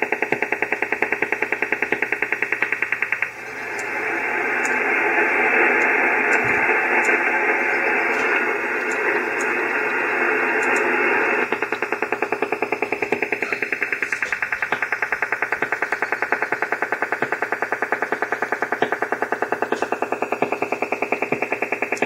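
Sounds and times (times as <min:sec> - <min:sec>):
radio static hiss: 0:00.0 - 0:22.0
fast radio pulsing signal: 0:00.7 - 0:22.0.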